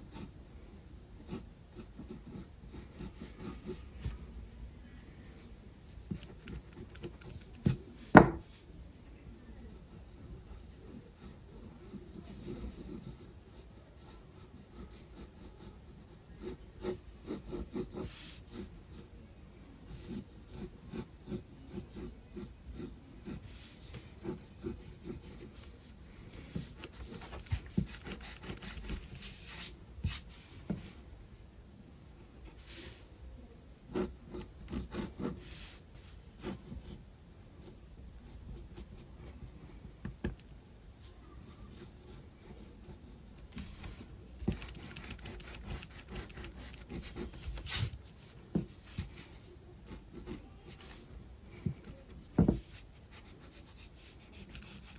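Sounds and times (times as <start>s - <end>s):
pencil scratching on paper: 0.0s - 3.9s, 5.9s - 7.9s, 8.6s - 19.1s, 19.8s - 33.2s, 33.8s - 51.2s, 51.8s - 54.9s.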